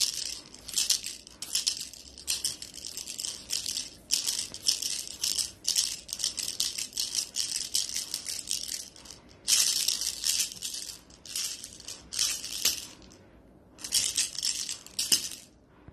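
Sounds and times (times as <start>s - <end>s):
cat toy strands rustling: 0.0s - 15.8s.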